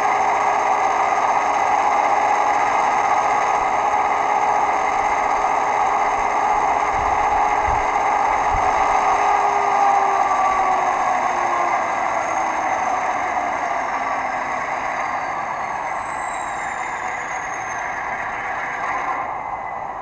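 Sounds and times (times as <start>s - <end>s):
diesel locomotive engine running: 0.0s - 20.0s.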